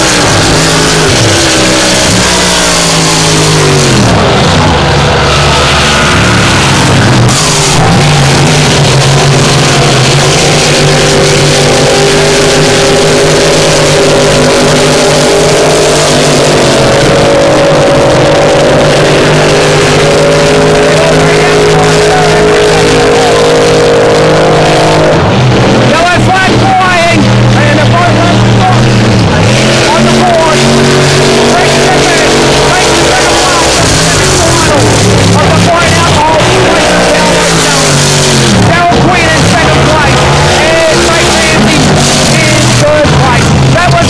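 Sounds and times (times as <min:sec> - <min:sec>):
racing boat engines: 0:00.0 - 0:44.0.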